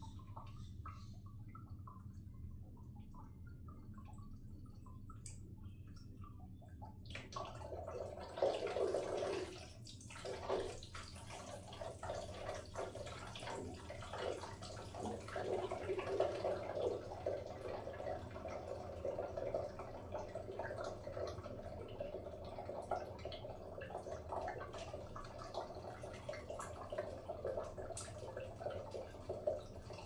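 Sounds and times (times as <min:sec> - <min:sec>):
water dripping: 0:00.0 - 0:30.0
water pouring and splashing in pipes: 0:00.0 - 0:30.0.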